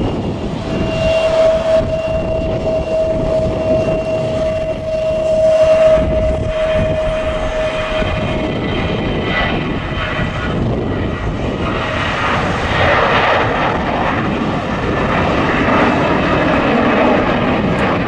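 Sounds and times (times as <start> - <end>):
airliner engines passing: 0.0 - 18.0.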